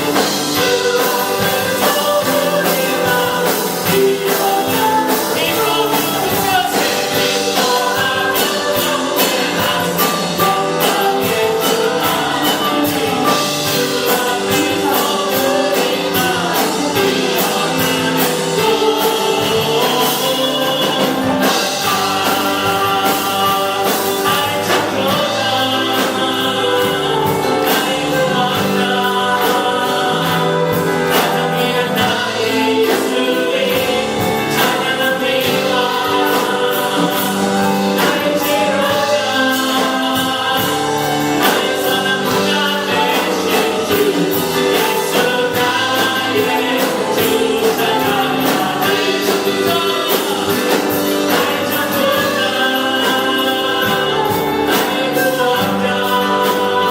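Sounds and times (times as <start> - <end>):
band accompaniment: 0.0 - 56.9
group singing gospel song: 0.0 - 56.9.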